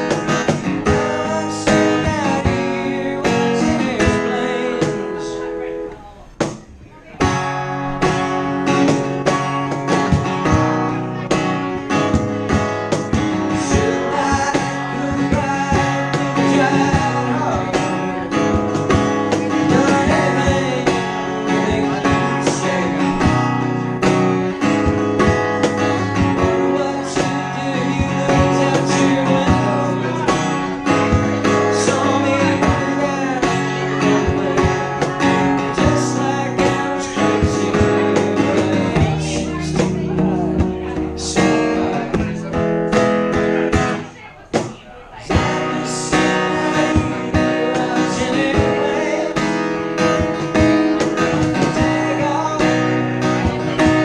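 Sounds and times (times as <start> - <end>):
man singing: 0.0 - 6.4, 7.2 - 44.2, 45.0 - 54.0
cajon beat: 0.0 - 54.0
strummed guitar: 0.0 - 54.0.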